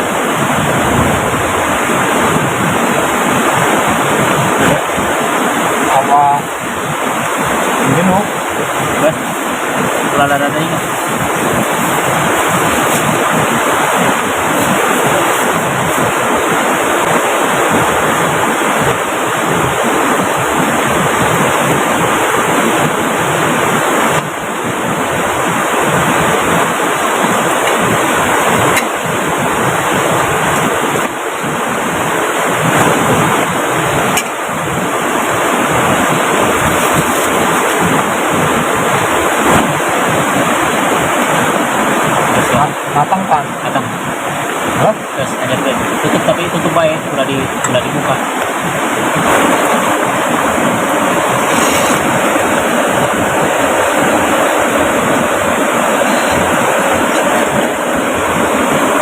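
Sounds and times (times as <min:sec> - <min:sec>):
heavy rain: 0:00.0 - 0:59.0
river running: 0:00.0 - 0:59.0.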